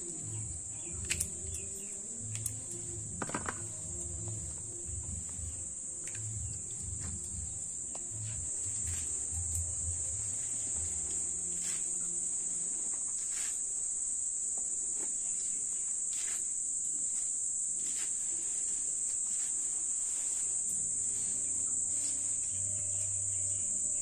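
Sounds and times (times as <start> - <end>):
insect chorus trilling: 0.0 - 24.0.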